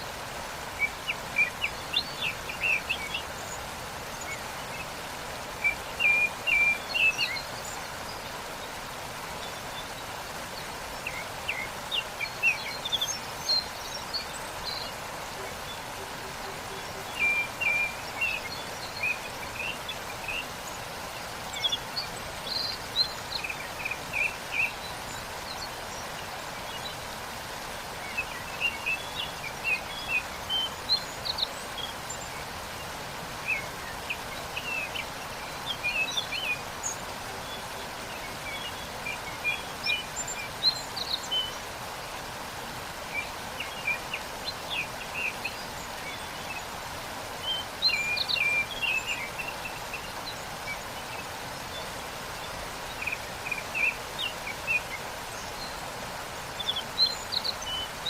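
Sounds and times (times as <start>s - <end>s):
small birds chirping: 0.0s - 58.0s
waterfall rushing: 0.0s - 58.0s.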